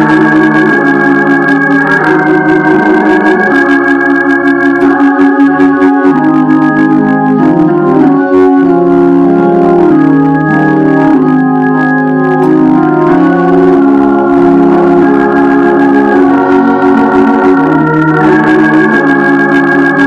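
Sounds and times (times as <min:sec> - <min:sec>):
organ playing sustained chords: 0:00.0 - 0:20.0.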